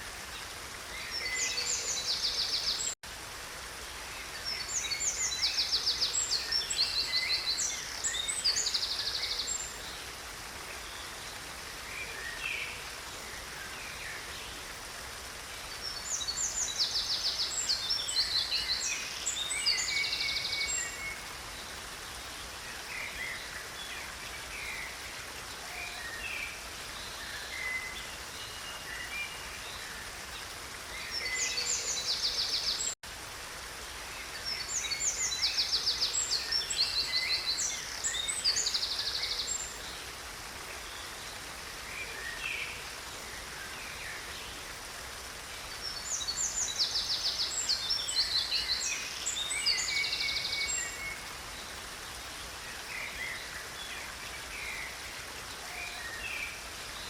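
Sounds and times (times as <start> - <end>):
songbird singing: 0.0 - 3.0, 3.8 - 33.0, 34.0 - 57.0
stream water running: 0.0 - 57.0.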